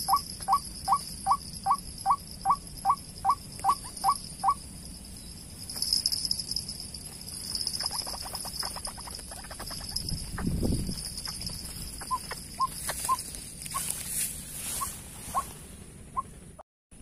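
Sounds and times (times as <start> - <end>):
steady high-pitched buzz: 0.0 - 16.6.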